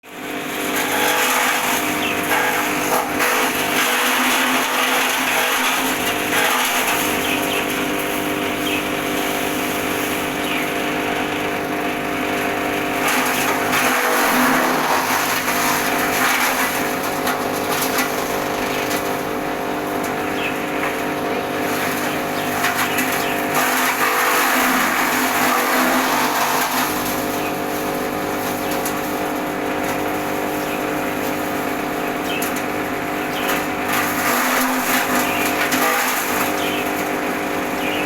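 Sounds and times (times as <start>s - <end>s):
chaff cutter machine whirring: 0.0s - 38.0s.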